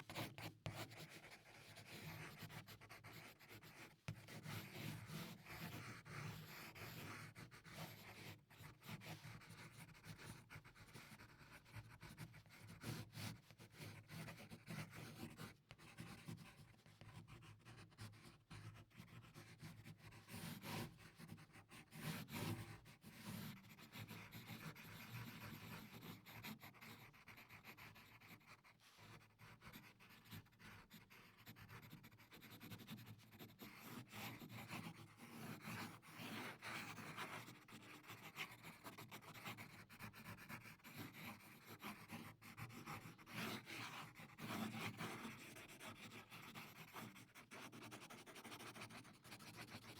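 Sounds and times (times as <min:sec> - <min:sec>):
pencil scratching on paper: 0:00.0 - 0:49.9.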